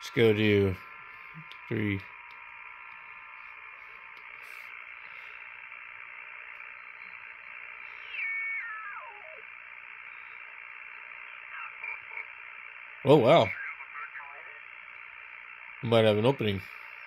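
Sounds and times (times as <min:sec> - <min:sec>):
shortwave receiver static hiss: 0:00.0 - 0:17.0.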